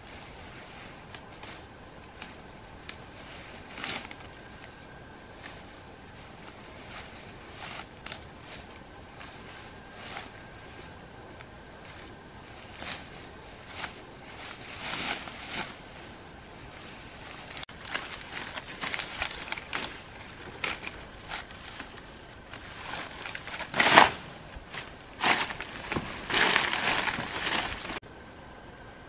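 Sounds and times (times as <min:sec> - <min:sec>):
crunching and rustling: 0:00.0 - 0:28.0.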